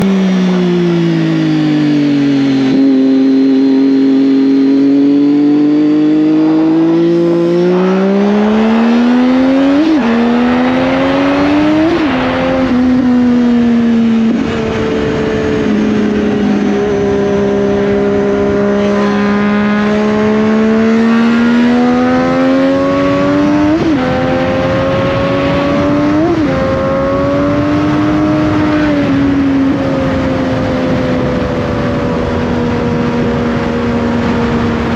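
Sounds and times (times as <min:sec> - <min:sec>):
motorcycle engine cruising: 0:00.0 - 0:34.9.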